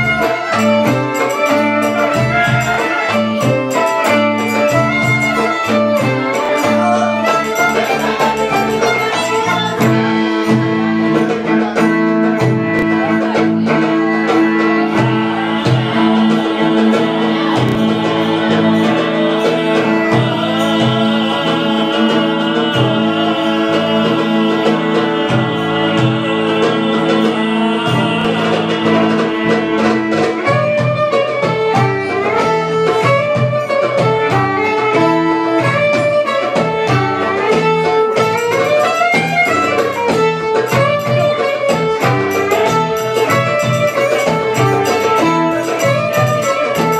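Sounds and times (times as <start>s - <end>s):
percussion beats: 0.0s - 46.9s
plucked strings: 0.0s - 46.9s
violin: 0.0s - 46.9s.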